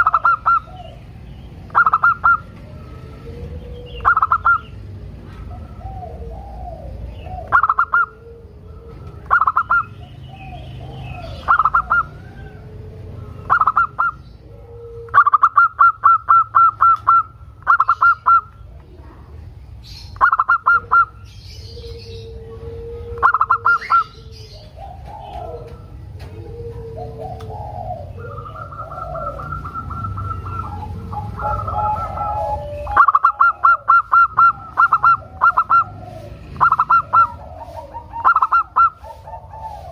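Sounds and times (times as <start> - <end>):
soft warbling calls: 0.0 - 18.7, 19.4 - 39.9
dove cooing: 0.0 - 39.9.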